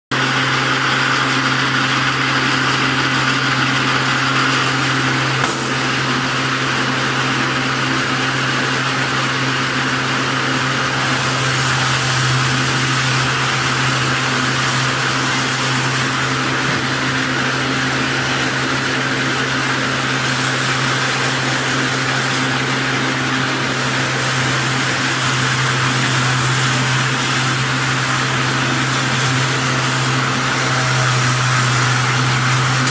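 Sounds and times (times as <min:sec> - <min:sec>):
baler machine droning: 0:00.1 - 0:32.9.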